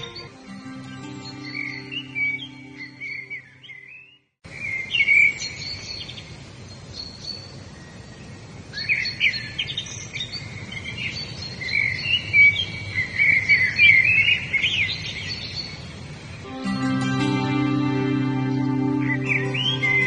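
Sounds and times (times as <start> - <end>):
songbirds chirping and trilling: 0.0 - 20.0.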